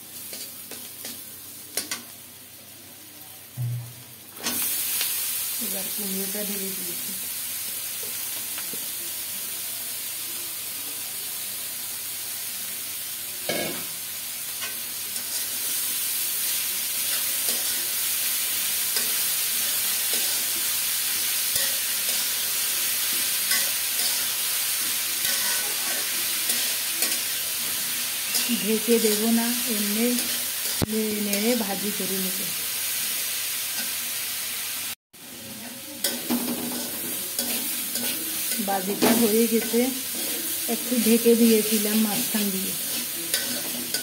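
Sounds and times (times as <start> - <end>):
vegetables sizzling in oil: 0.0 - 44.0.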